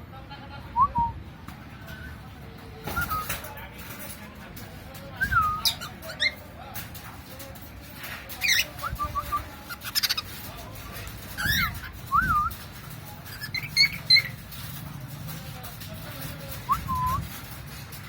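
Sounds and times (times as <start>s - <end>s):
rattling chatter: 0.0s - 18.0s.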